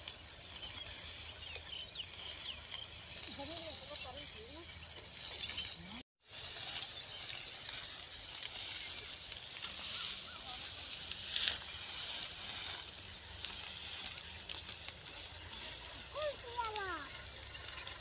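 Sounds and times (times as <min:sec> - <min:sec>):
wheat stalks rustling and crackling: 0:00.0 - 0:18.0.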